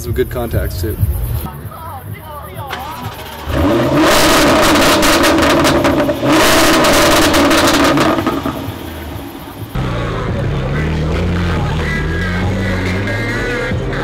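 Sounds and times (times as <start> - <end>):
car engine revving: 2.6 - 14.0.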